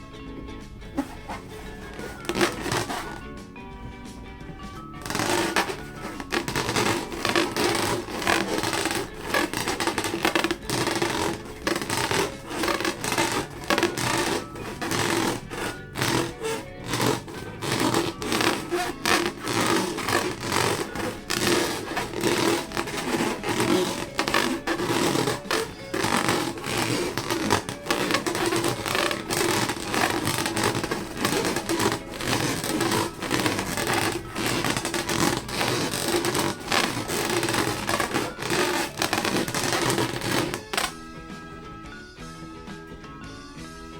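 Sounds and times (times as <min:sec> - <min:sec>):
background music: 0:00.0 - 0:43.9
scratchy rubbing and crackling: 0:01.0 - 0:03.3, 0:05.0 - 0:41.0.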